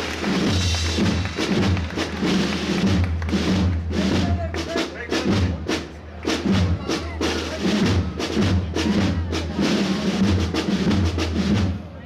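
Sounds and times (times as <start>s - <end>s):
snare drums rolling: 0.0s - 11.8s.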